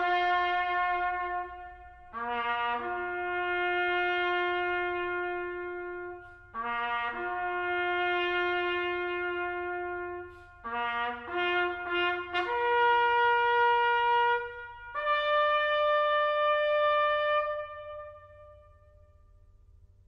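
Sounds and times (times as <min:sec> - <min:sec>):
solo trumpet bugle call: 0:00.0 - 0:19.5.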